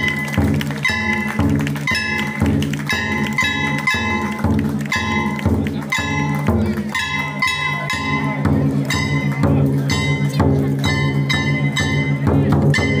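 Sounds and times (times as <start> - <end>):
large barrel drum beating: 0.0 - 13.0.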